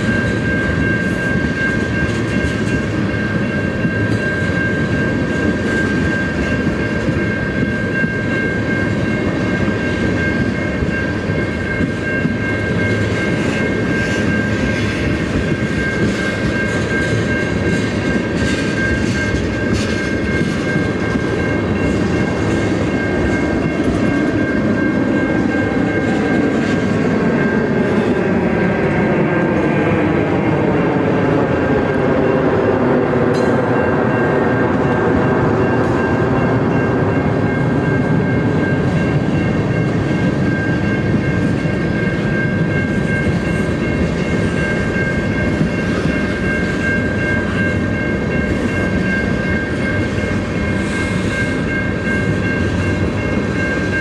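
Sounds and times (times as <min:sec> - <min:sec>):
crossing warning bell ringing: 0:00.0 - 0:54.0
train wheels rumbling and rattling: 0:00.0 - 0:54.0.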